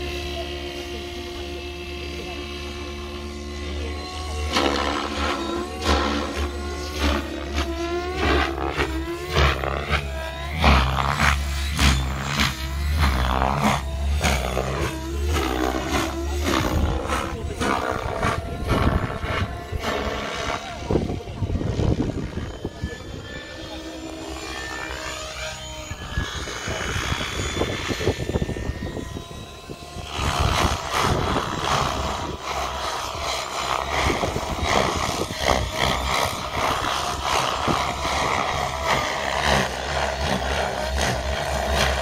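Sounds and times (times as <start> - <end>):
model helicopter rotor whine: 0.0 - 42.0.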